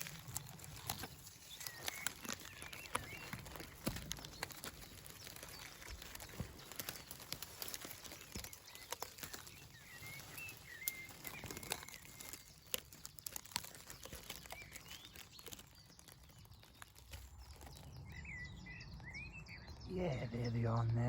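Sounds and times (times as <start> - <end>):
twigs cracking: 0.0 - 20.7
leaves and twigs rustling: 0.0 - 21.0
small bird singing: 0.0 - 21.0.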